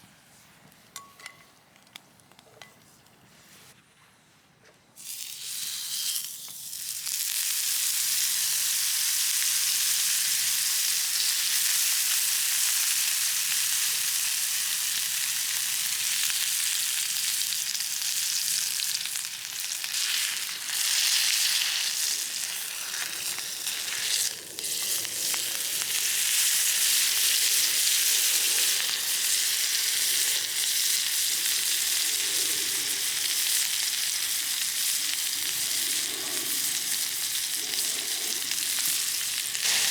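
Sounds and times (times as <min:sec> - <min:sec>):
food sizzling in oil: 0:05.0 - 0:32.2, 0:32.9 - 0:39.9.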